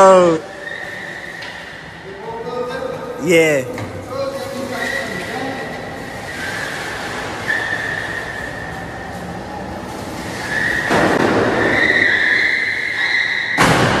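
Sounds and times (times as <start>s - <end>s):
tyres squealing on concrete: 0.4s - 2.6s, 4.1s - 13.7s.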